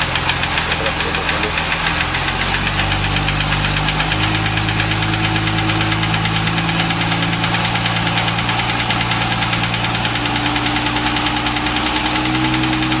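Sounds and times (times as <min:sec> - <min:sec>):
boat engine running steadily: 0:00.0 - 0:13.0
fast even engine ticking: 0:00.0 - 0:13.0.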